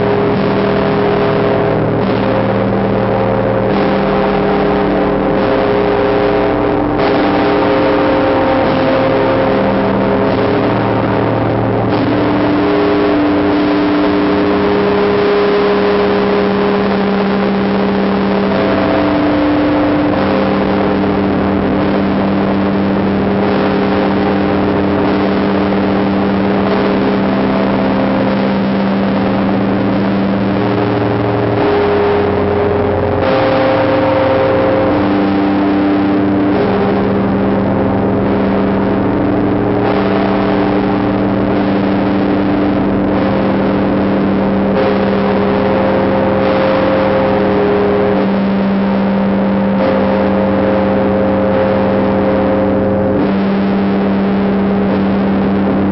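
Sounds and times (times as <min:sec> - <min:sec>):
deep church bell hum: 0:00.0 - 0:55.9.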